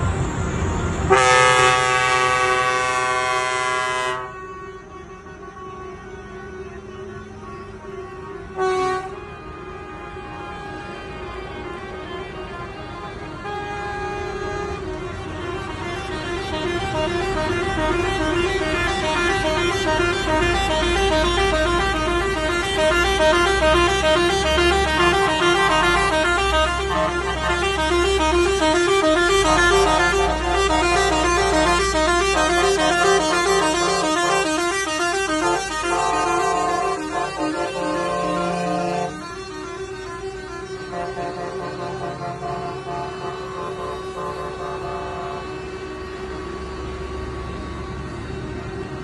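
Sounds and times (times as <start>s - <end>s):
truck engines rumbling: 0.0s - 49.0s
warbling truck horns: 0.6s - 49.0s.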